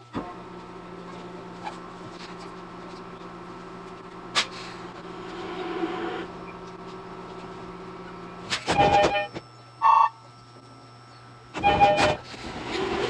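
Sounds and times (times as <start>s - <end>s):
electric train hum: 0.0s - 13.0s.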